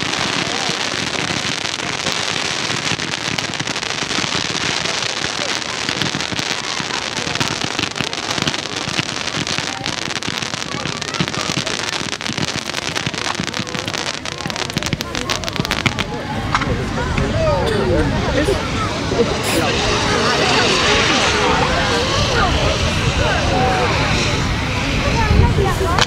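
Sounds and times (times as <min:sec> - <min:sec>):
fireworks hissing and crackling: 0:00.0 - 0:26.0.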